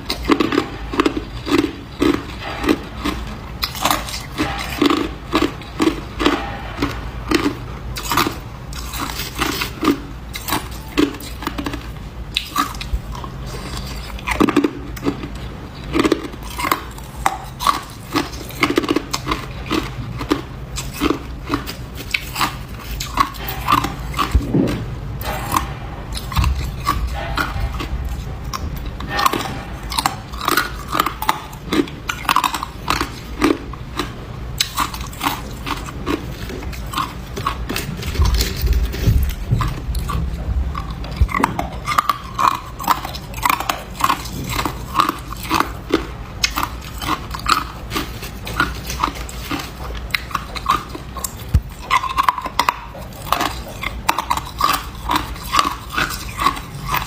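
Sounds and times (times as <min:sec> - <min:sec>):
ice crunching being chewed: 0:00.0 - 0:57.0.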